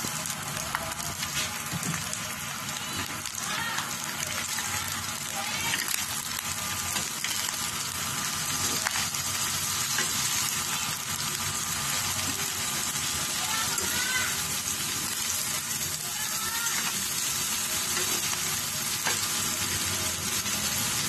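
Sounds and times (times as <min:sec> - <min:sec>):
food sizzling in a skillet: 0:00.0 - 0:21.0.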